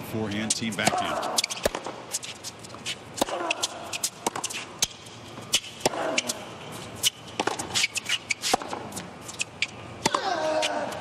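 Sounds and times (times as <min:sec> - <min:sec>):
racket hitting tennis ball: 0:00.4 - 0:06.4, 0:07.0 - 0:11.0
shoe squeaks: 0:00.7 - 0:11.0.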